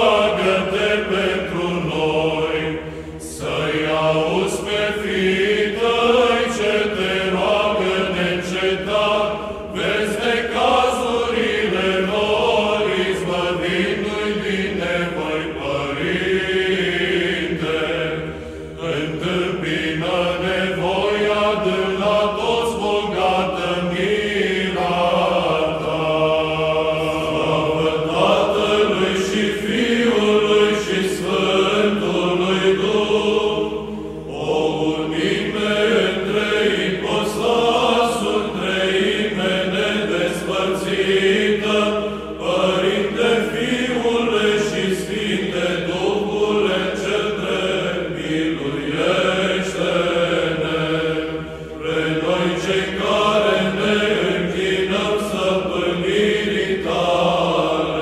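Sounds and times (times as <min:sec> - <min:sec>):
voices chanting a hymn: 0:00.0 - 0:58.0.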